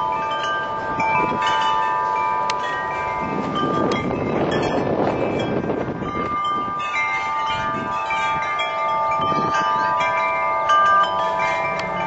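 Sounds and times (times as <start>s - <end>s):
wind chimes ringing: 0.0s - 12.0s
wind rushing on microphone: 0.0s - 12.0s.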